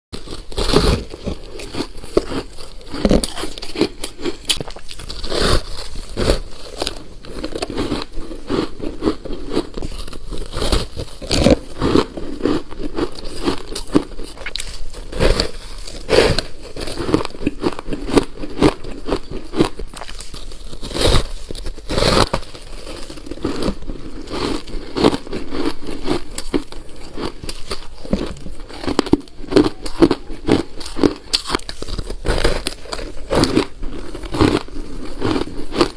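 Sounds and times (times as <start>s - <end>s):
chewing crunchy ice: 0.2s - 35.9s.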